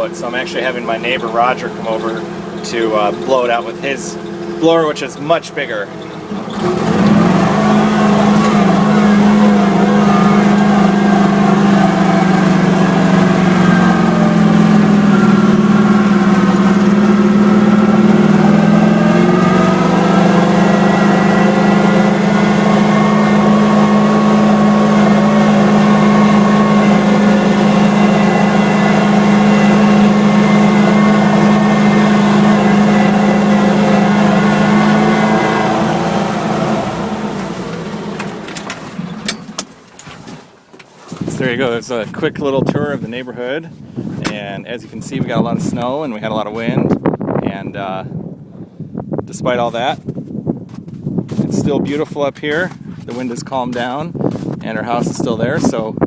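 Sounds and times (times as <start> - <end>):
vehicle engine running: 0.0 - 40.3, 49.4 - 56.0.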